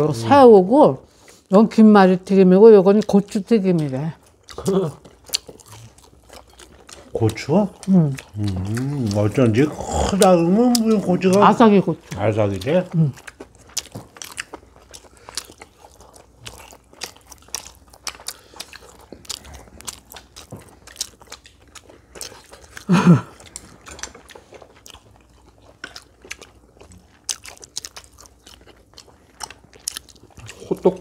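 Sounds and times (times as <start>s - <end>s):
crunching of fried food: 4.2s - 31.0s.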